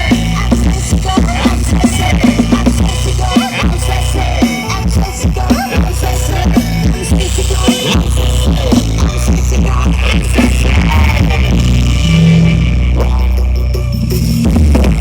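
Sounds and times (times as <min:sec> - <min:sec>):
loud music with heavy bass: 0:00.0 - 0:15.0
person singing or rapping: 0:00.0 - 0:15.0.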